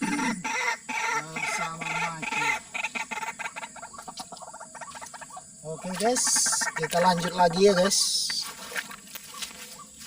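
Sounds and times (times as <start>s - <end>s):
waterhens calling: 0.0s - 10.0s.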